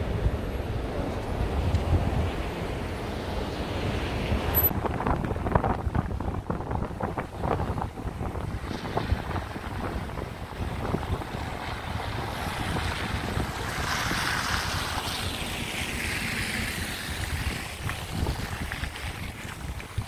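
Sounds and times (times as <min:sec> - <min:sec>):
tyre and road rumble: 0:00.0 - 0:20.0
wind noise: 0:00.0 - 0:20.0.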